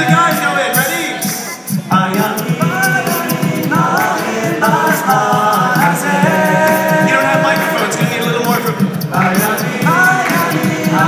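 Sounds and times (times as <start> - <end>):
male a cappella group singing: 0.0 - 11.0
steady clicking beat: 0.0 - 11.0.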